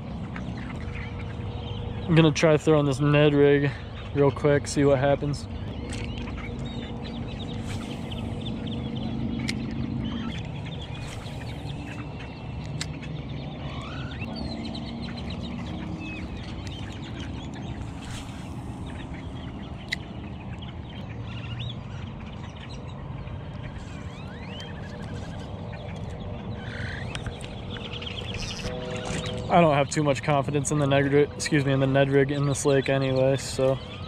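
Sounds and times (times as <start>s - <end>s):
waterbirds calling: 0.0s - 34.0s.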